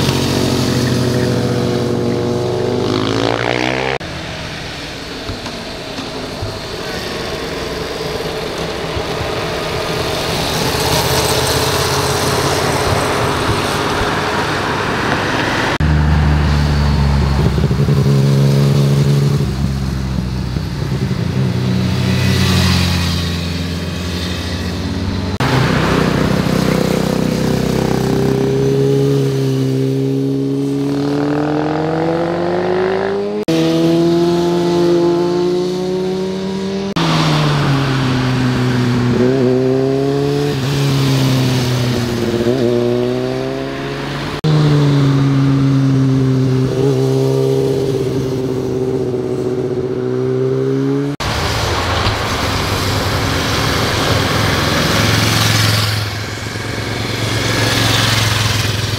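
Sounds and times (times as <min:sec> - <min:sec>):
motorcycle engines passing: 0:00.0 - 0:58.9.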